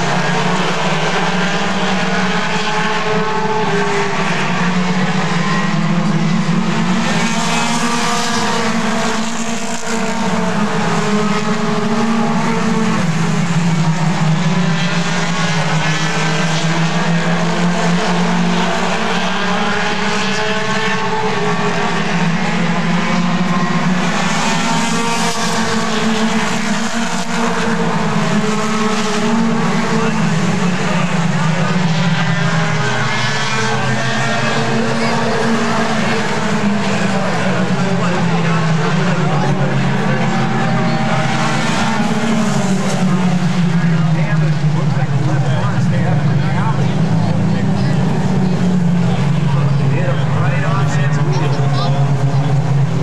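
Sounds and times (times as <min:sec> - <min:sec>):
race car engines running: 0:00.0 - 0:53.0.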